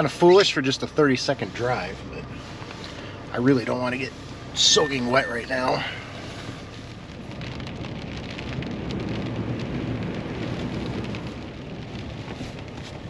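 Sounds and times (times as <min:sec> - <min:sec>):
low rumble: 0:00.0 - 0:13.0
rain on truck roof: 0:00.0 - 0:13.0.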